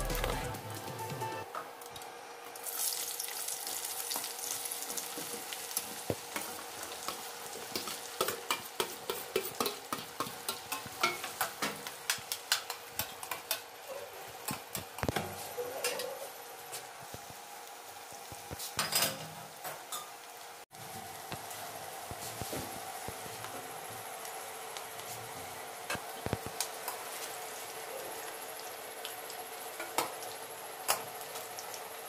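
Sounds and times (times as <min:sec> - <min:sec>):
hot oil sizzling: 0:00.0 - 0:32.0
onions frying with sharp pops: 0:01.5 - 0:15.6, 0:16.4 - 0:32.0.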